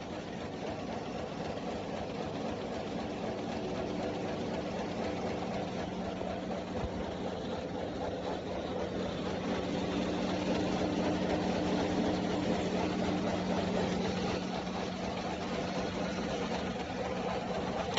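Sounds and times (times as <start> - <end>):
machine whirring with low hum: 0.0 - 17.9.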